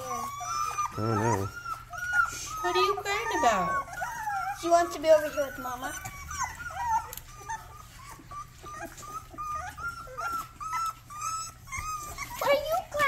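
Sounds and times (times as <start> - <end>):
puppy whining: 0.0 - 13.0.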